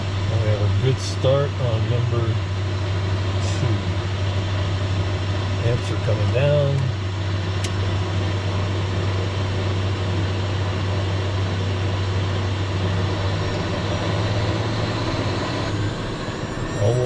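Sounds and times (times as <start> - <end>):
jet engine idling: 0.0 - 17.0.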